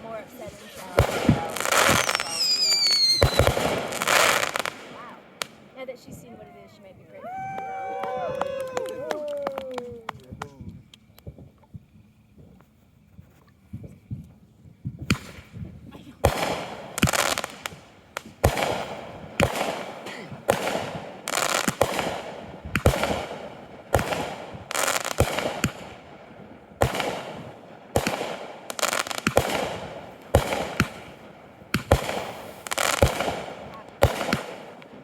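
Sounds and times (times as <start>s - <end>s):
fireworks bangs: 0.0s - 12.6s, 13.7s - 35.0s.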